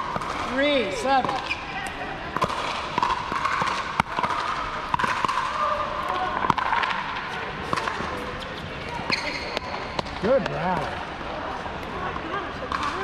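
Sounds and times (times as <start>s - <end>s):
ball bouncing on hard court: 0.0s - 10.9s.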